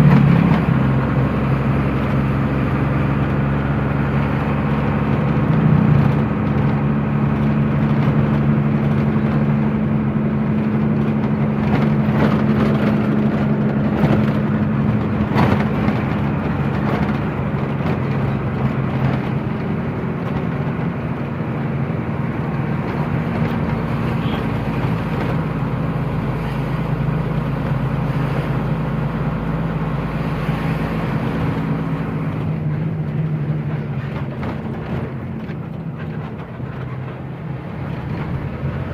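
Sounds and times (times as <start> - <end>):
road and tyre noise: 0.0 - 38.9
truck engine running: 0.0 - 38.9.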